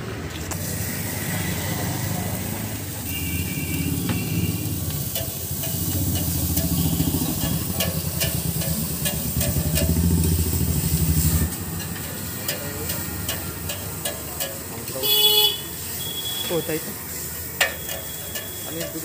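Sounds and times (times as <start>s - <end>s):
food sizzling on a griddle: 0.4s - 19.0s.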